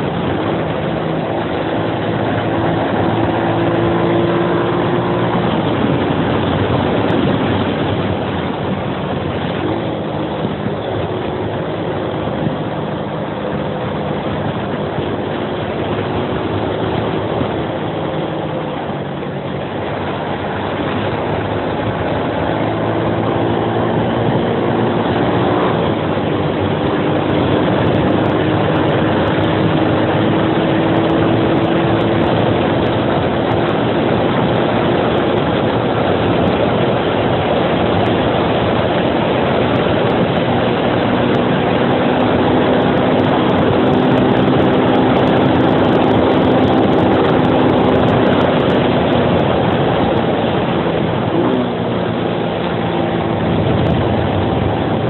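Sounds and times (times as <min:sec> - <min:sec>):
heavy wind: 0:00.0 - 0:55.0
motorcycle engine pulling uphill: 0:00.0 - 0:55.0
tire and road noise: 0:00.0 - 0:55.0.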